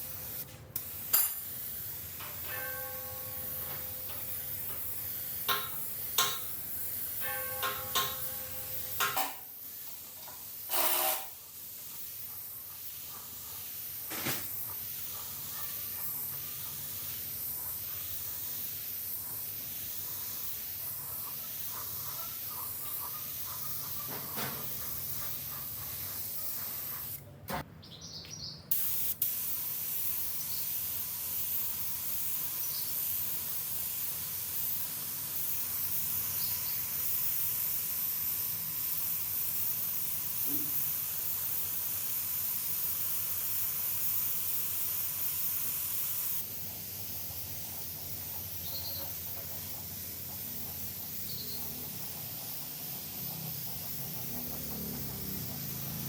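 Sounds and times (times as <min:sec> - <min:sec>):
spraying hiss: 0:00.0 - 0:02.5, 0:03.5 - 0:27.2, 0:28.7 - 0:56.0.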